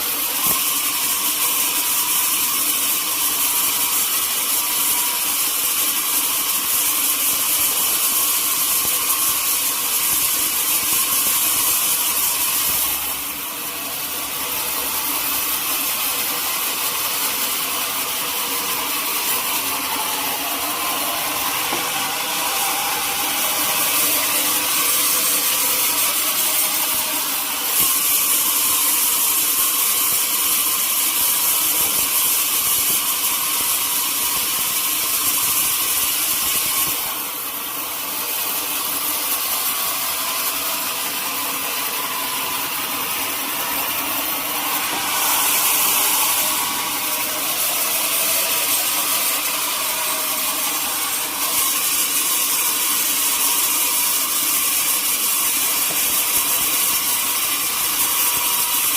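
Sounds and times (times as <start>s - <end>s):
sawmill saw cutting log: 0.0s - 58.9s.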